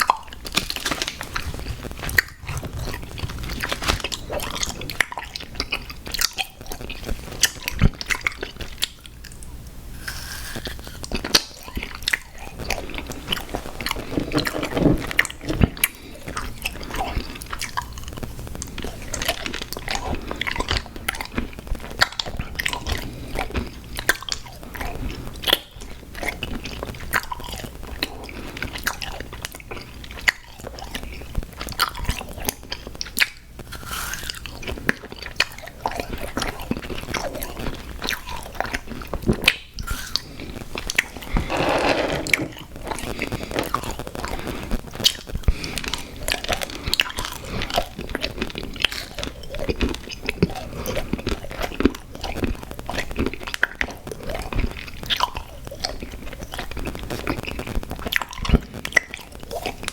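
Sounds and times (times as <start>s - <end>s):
wet crunching while chewing: 0.0s - 41.5s, 42.2s - 59.9s.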